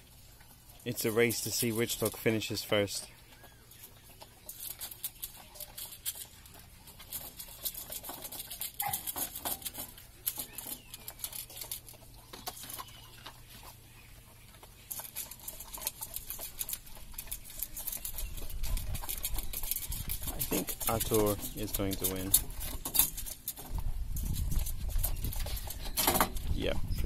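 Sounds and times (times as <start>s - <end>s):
dogs crunching dry kibble: 0.0s - 26.6s.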